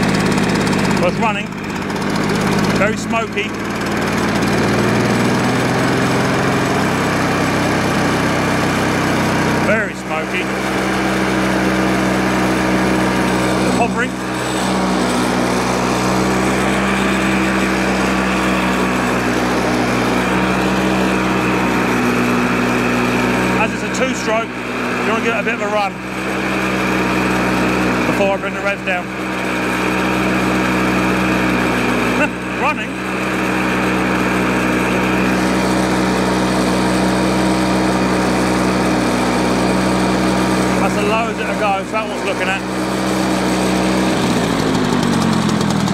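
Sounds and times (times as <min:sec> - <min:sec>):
hover mower engine running: 0:00.0 - 0:45.9.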